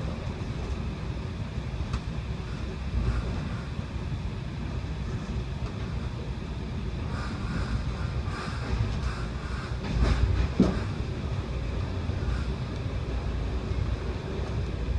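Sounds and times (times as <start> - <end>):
train rumbling on rails: 0.0 - 14.9.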